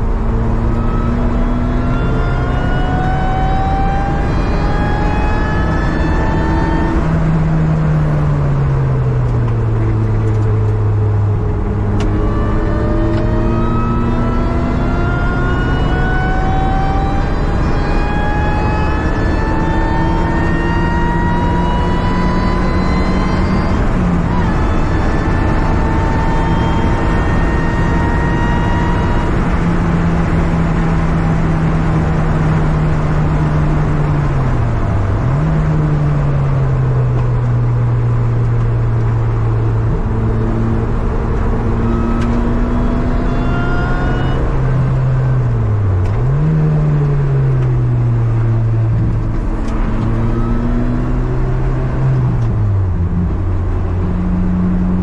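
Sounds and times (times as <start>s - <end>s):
car engine running: 0.0s - 55.0s
road and wind noise: 0.0s - 55.0s.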